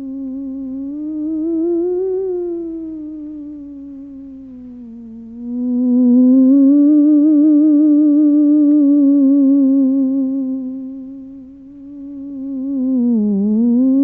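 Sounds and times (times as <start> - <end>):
eerie wavering theremin-like tone: 0.0 - 14.0.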